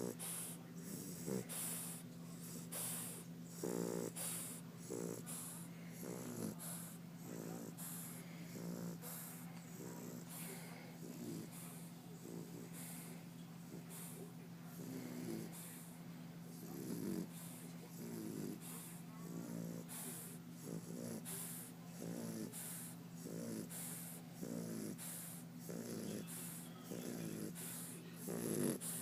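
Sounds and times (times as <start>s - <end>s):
dog snoring: 0.0s - 29.0s.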